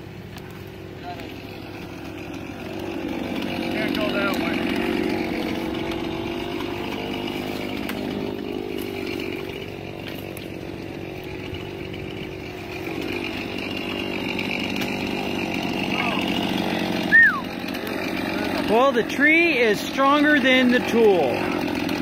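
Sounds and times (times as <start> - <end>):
chainsaw running: 0.0 - 22.0.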